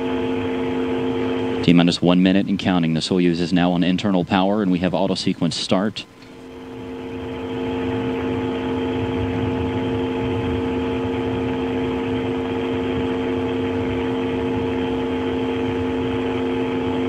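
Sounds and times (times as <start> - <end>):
held pitched tones: 0.0 - 17.0
machinery hum: 0.0 - 17.0
constant hiss: 1.6 - 17.0.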